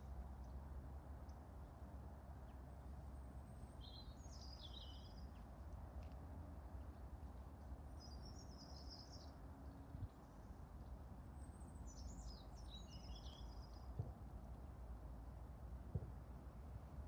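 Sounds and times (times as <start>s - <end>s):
low background rumble: 0.0s - 17.0s
songbirds chirping faintly: 0.0s - 17.0s.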